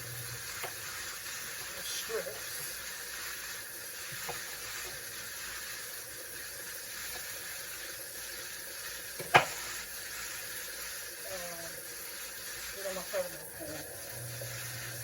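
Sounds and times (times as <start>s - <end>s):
chicken sizzling in a hot pan: 0.0s - 15.0s.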